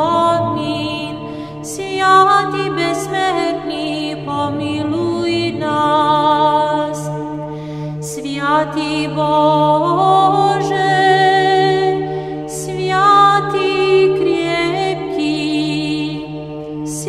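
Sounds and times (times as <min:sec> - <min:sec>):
choir chanting: 0:00.0 - 0:17.0
low held drone note: 0:00.0 - 0:17.0.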